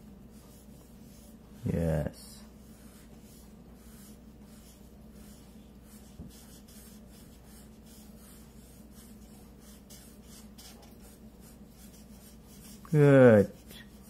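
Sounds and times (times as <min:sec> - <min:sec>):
markers scribbling on paper: 0:00.0 - 0:01.7, 0:02.5 - 0:14.0.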